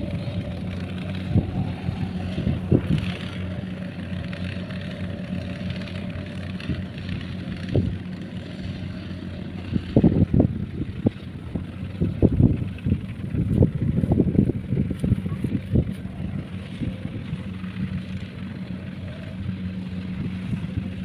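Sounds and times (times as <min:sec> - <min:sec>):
combine harvester diesel engine: 0:00.0 - 0:21.0.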